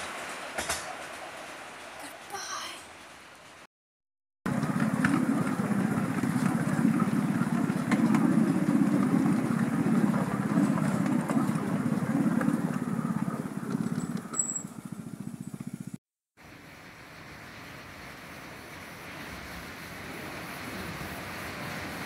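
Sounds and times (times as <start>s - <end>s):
train wheels rumbling on rails: 0.0s - 3.7s, 4.5s - 22.0s.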